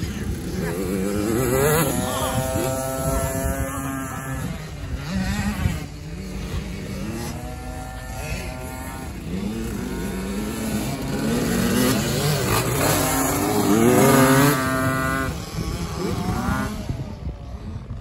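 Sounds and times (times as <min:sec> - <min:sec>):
dirt bikes revving: 0:00.0 - 0:18.0.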